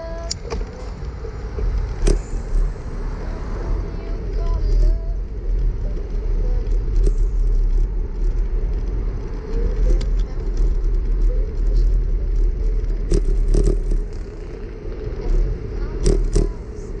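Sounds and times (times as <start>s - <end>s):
bicycle tyre and road noise: 0.0s - 17.0s
wind rumbling on microphone: 0.0s - 17.0s.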